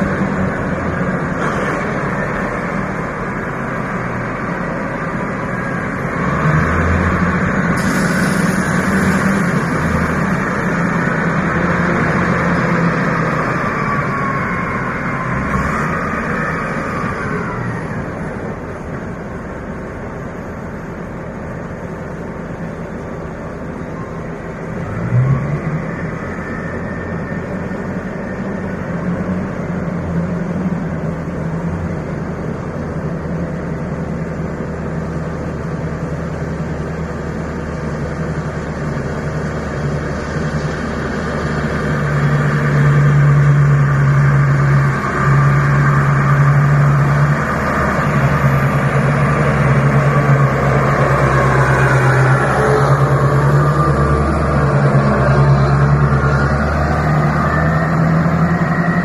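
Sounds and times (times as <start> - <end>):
large diesel truck engine running: 0.0 - 59.0.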